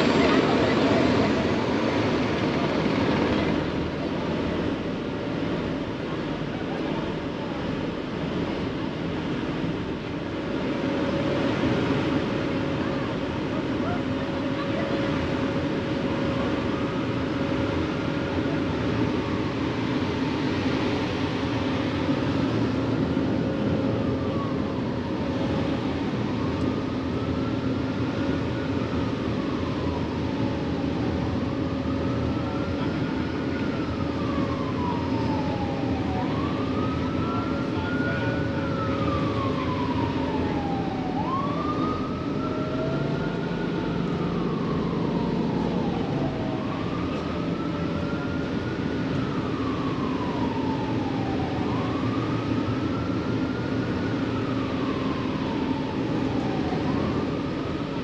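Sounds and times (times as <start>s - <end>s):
emergency vehicle siren wailing: 0.0s - 58.0s
ferry engines droning: 0.0s - 58.0s
rush of wind and water: 0.0s - 58.0s.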